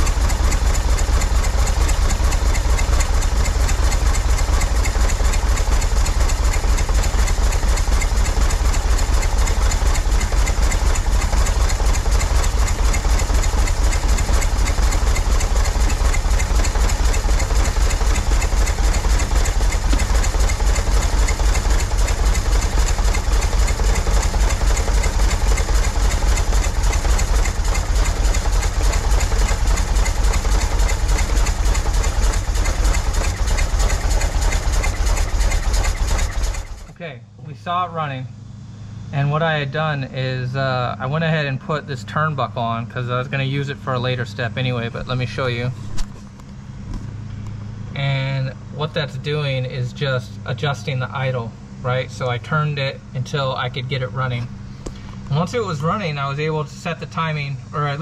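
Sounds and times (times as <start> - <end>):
car engine idling: 0.0 - 49.7.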